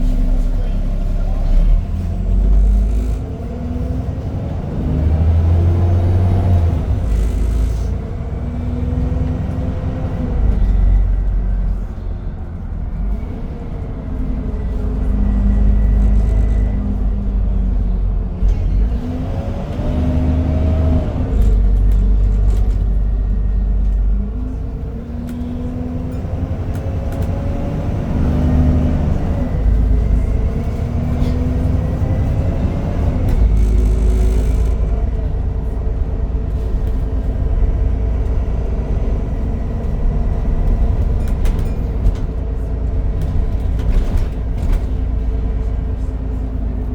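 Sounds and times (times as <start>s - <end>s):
bus engine rumbling and whining: 0.0s - 46.9s.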